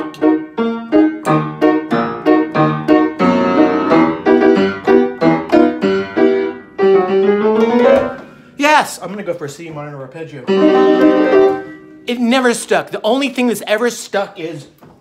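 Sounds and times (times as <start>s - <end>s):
upright piano playing: 0.0s - 9.2s, 10.3s - 13.8s.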